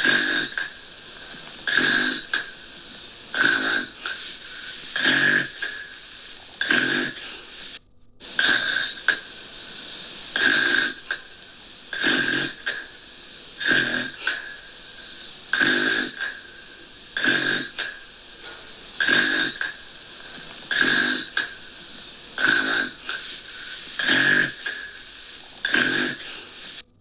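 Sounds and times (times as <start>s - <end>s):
rhythmic rasping snoring: 0.0s - 27.0s.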